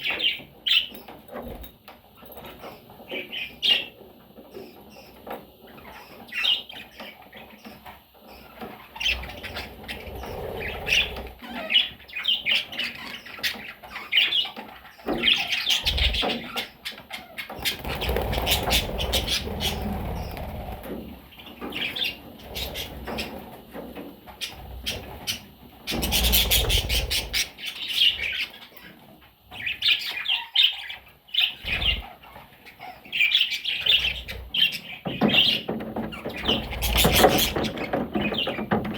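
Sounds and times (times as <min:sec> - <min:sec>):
budgerigars chirping: 0:02.6 - 0:23.4, 0:24.4 - 0:38.6.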